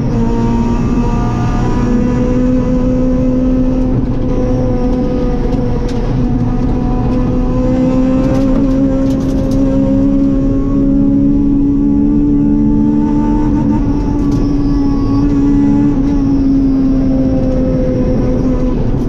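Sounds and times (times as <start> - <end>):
car engine running: 0.0 - 19.0
road and tyre noise: 0.0 - 19.0.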